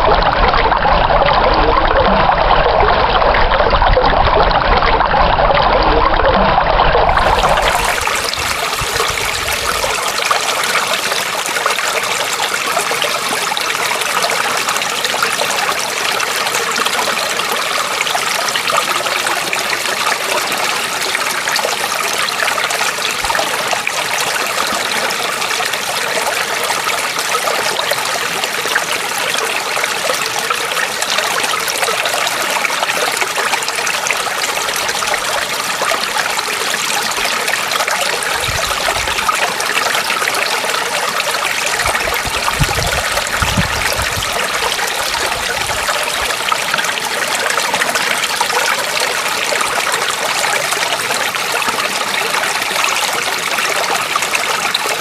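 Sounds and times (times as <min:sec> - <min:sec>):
deep water rushing: 0:00.0 - 0:55.0
water trickling and babbling: 0:00.0 - 0:55.0.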